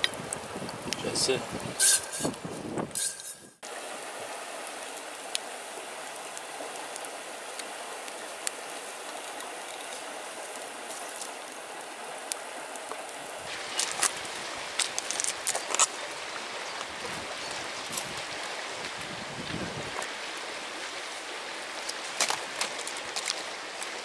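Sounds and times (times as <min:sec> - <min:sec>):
campfire crackling: 0:00.0 - 0:24.0
flowing water: 0:00.0 - 0:24.0.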